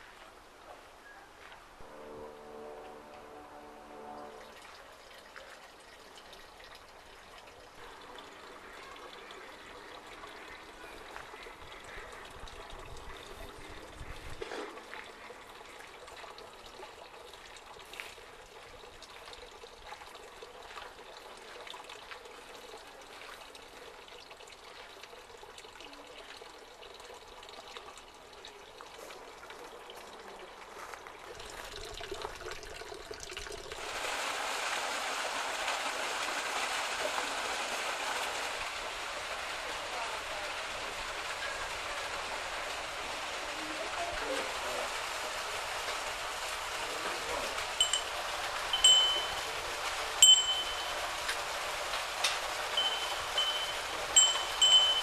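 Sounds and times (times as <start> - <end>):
rush of water: 0.0 - 55.0
water trickling and running: 0.0 - 55.0.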